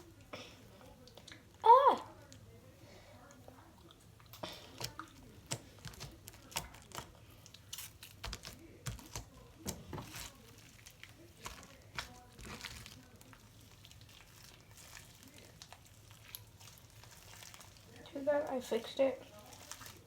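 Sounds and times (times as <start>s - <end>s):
slime clicking and crackling: 3.8s - 20.0s.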